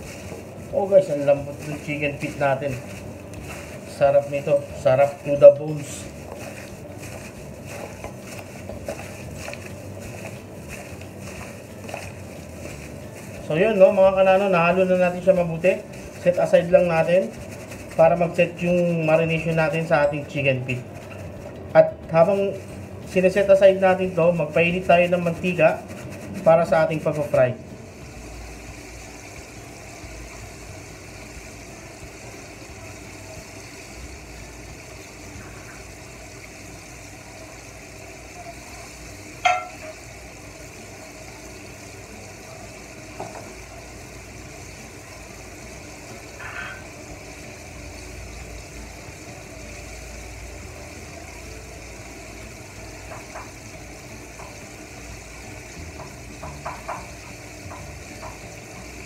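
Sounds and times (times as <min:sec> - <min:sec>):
oil hissing in a frying pan: 0:00.0 - 0:59.0.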